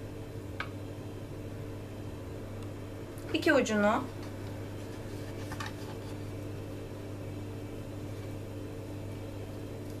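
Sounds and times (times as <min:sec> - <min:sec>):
electrical hum with hiss: 0:00.0 - 0:10.0.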